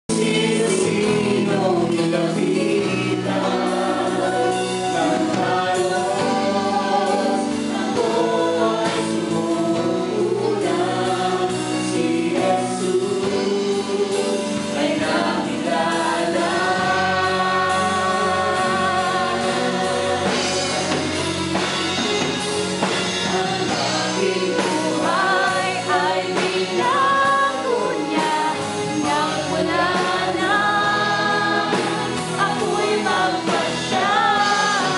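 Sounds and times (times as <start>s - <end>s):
woman and man singing: 0.1s - 21.2s, 23.2s - 34.9s
worship band playing: 0.1s - 34.9s.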